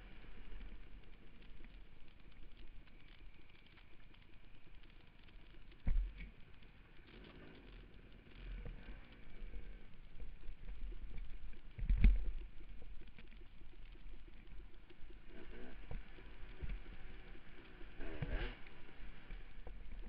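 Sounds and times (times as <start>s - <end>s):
rumble on microphone: 0.0s - 20.0s.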